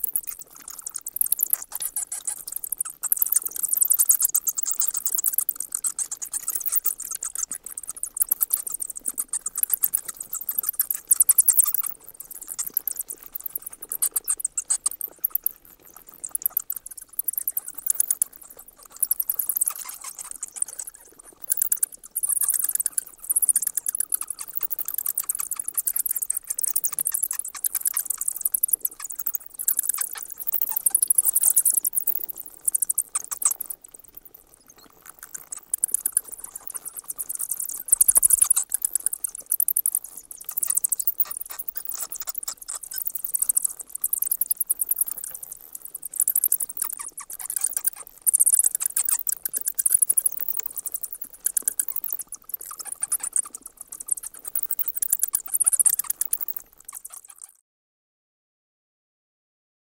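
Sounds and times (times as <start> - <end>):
bats chittering: 0.1 - 15.6, 16.2 - 57.4.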